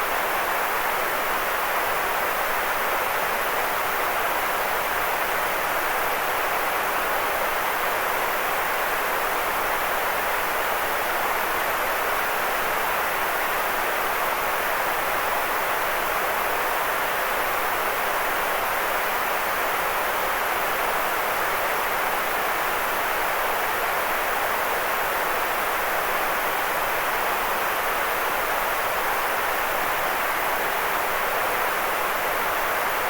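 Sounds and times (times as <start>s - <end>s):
white noise hiss: 0.0s - 33.0s.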